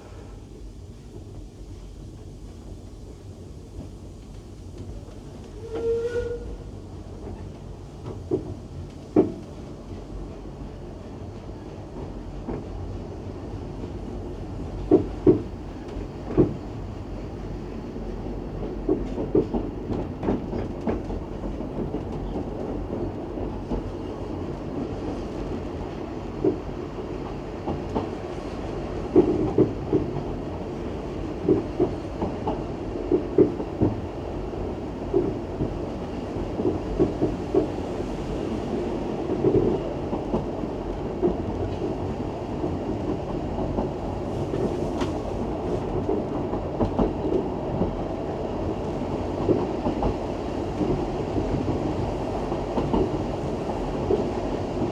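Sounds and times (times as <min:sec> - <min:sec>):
train rumbling along track: 0:00.0 - 0:54.9.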